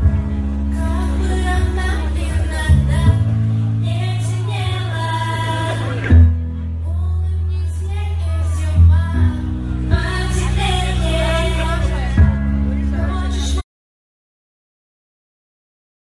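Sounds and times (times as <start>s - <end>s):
pop song with vocals: 0.0s - 13.6s
sustained bass notes: 0.0s - 13.6s.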